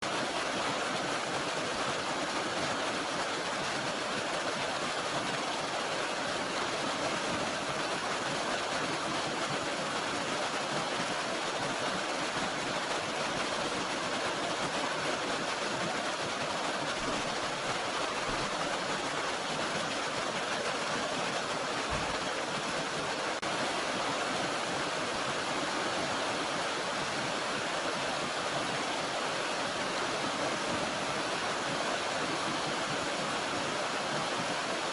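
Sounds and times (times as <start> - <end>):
mountain stream flowing: 0.0 - 34.9.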